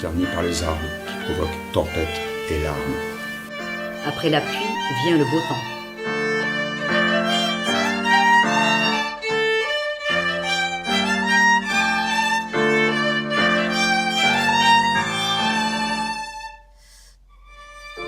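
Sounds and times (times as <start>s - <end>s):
violins playing bowed chords: 0.0s - 16.6s, 17.4s - 18.0s
piano: 0.0s - 18.0s.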